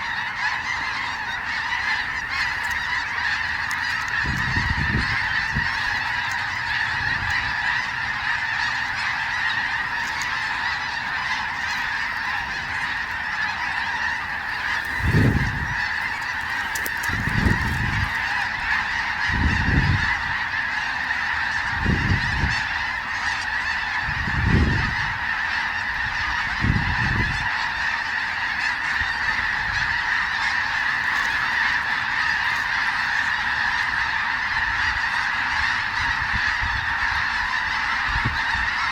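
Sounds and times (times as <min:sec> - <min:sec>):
snow geese honking: 0:00.0 - 0:38.9.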